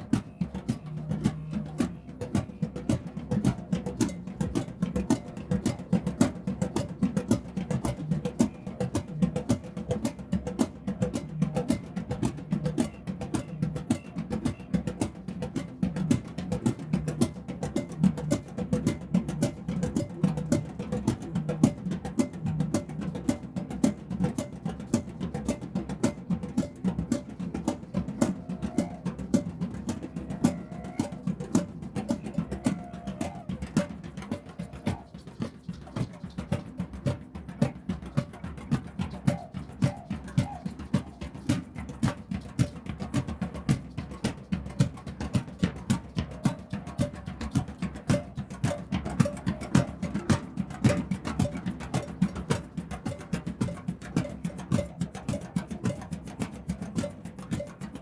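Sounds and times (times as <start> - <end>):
drum circle playing: 0.0 - 58.0.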